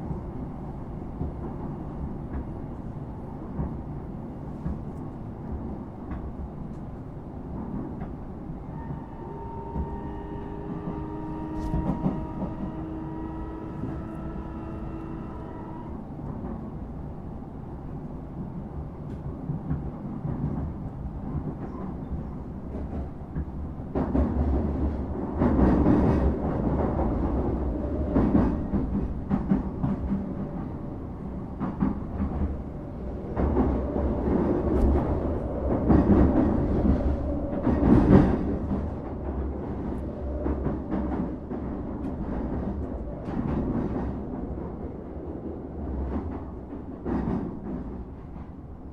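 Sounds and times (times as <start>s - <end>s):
train rumble inside carriage: 0.0s - 48.9s.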